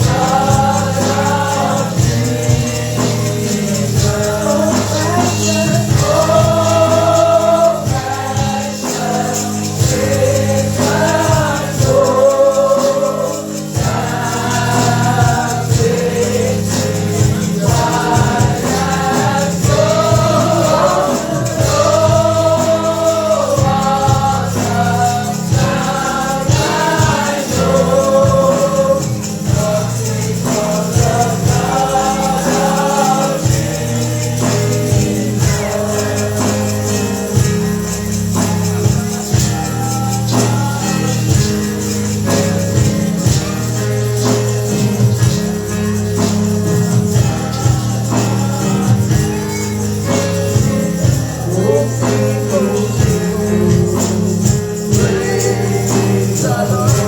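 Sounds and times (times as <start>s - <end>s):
choir singing with a band: 0.0s - 57.0s
steady bass line: 0.0s - 57.0s
tambourine shaking: 0.0s - 57.0s.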